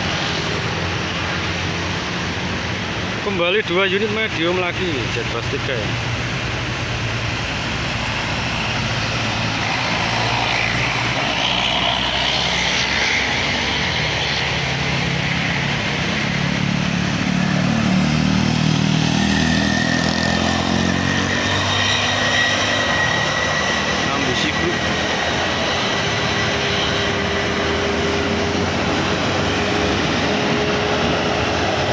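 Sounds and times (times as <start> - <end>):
buses driving past: 0.0 - 31.9.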